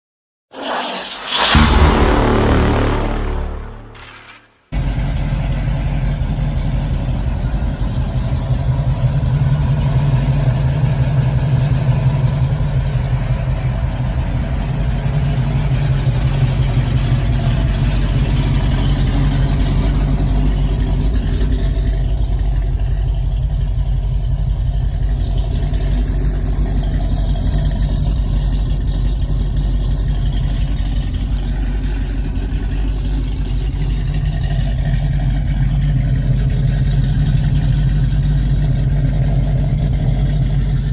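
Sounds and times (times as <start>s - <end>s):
car engine running: 4.8s - 40.9s.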